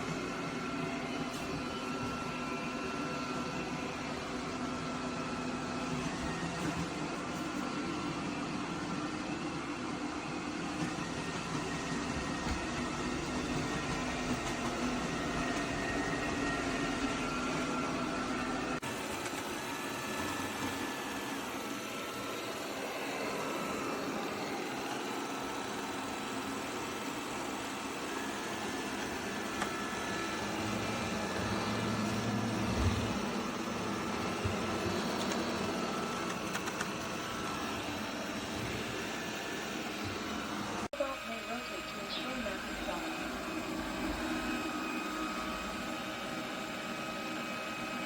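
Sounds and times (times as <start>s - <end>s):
robot vacuum humming: 0.0s - 48.0s.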